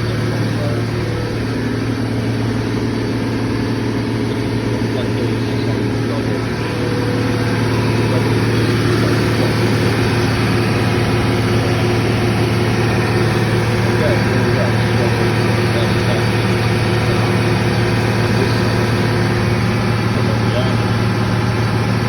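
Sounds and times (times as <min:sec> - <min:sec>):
refrigeration compressor humming: 0:00.0 - 0:22.0.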